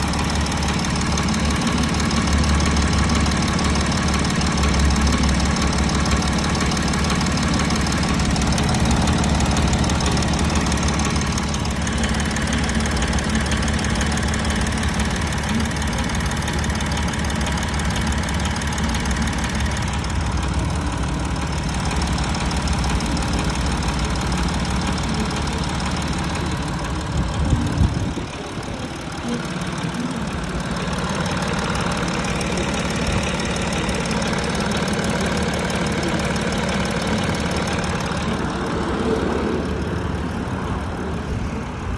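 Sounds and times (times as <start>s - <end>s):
diesel engine idling: 0.0s - 41.9s
engine knock: 0.0s - 41.9s.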